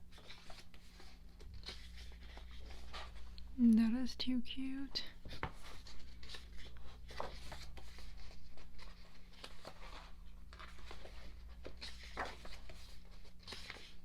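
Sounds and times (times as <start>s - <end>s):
pages turning and rustling: 0.0s - 3.4s, 5.2s - 14.0s
steady low hum: 0.0s - 13.3s.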